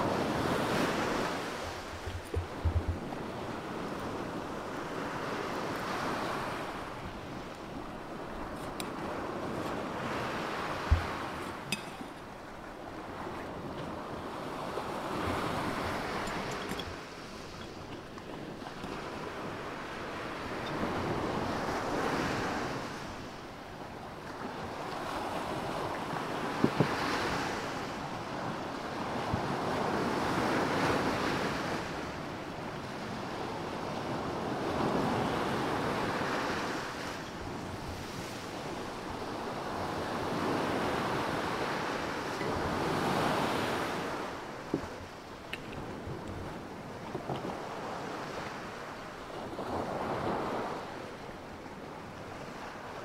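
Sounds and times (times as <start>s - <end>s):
waves on a pebble shore: 0.0s - 53.0s.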